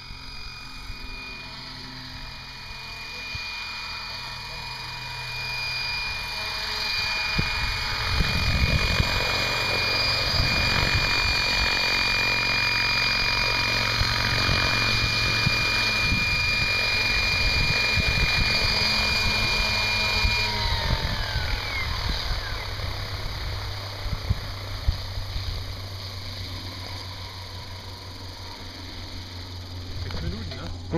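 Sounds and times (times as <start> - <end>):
electric motor high whine: 0.0 - 30.9
helicopter rotor whoosh: 0.0 - 30.9.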